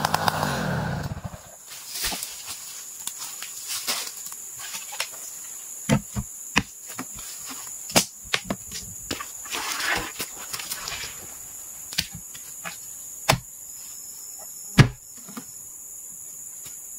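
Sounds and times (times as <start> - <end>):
insect trill: 1.2 - 16.9.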